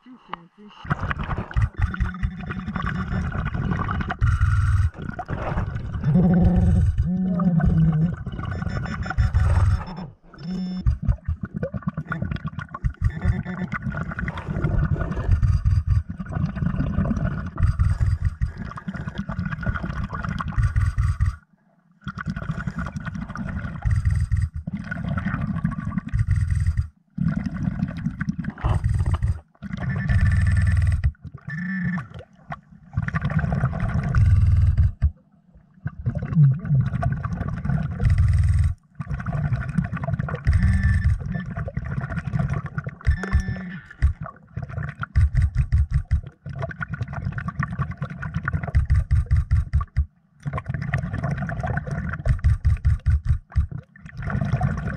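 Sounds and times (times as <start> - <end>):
underwater breathing bubbles: 0.0 - 49.4, 50.4 - 54.9.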